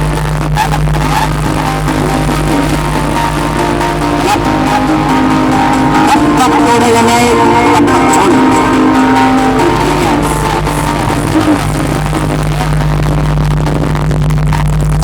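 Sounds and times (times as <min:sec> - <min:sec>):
bass-heavy music over loudspeakers: 0:00.0 - 0:15.0.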